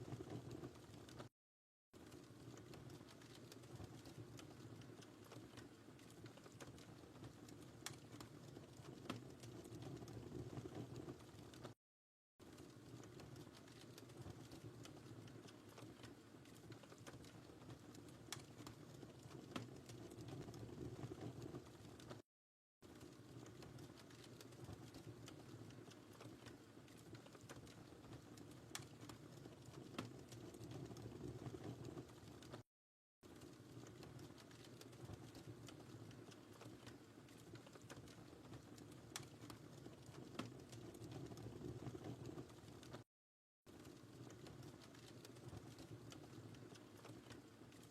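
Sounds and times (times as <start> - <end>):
low rumble of flames: 0.0 - 1.3, 2.0 - 11.8, 12.4 - 22.2, 22.9 - 32.6, 33.3 - 43.0
wood fire popping: 0.0 - 1.3, 2.0 - 11.8, 12.4 - 22.2, 22.9 - 32.6, 33.3 - 43.0, 43.7 - 47.9.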